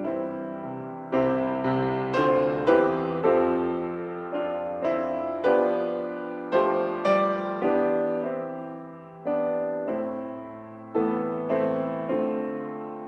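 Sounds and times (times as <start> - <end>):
solo piano playing hymn chords: 0.0 - 13.0.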